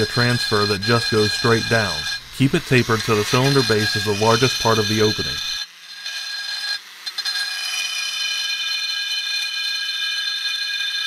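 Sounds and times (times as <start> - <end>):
rotary tool grinding metal: 0.0 - 11.0.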